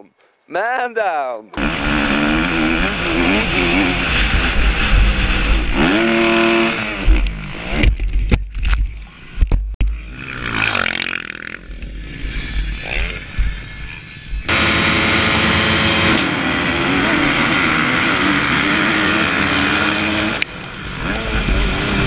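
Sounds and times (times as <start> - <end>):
motocross bike engine running hard: 1.6 - 8.2, 8.9 - 22.0.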